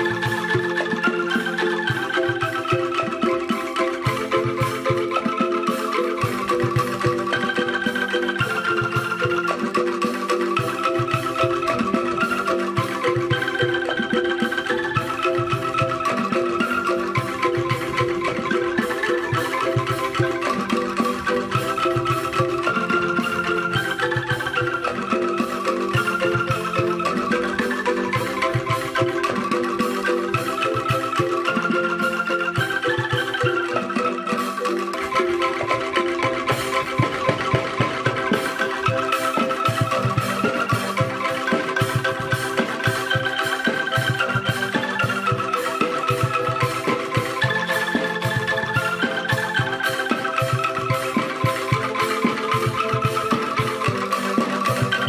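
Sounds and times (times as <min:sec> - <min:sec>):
melody over fast beat: 0:00.0 - 0:55.0.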